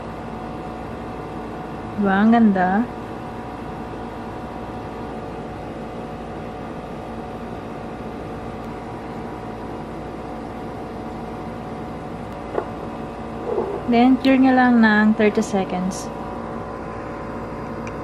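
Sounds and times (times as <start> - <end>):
steady background hum and hiss: 0.0 - 18.0.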